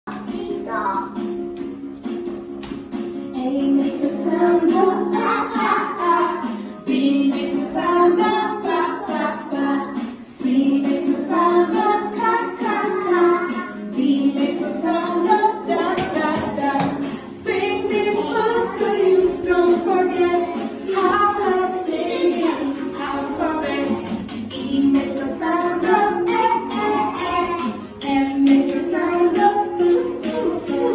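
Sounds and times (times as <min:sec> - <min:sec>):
children's song singing voices: 0:00.1 - 0:30.9.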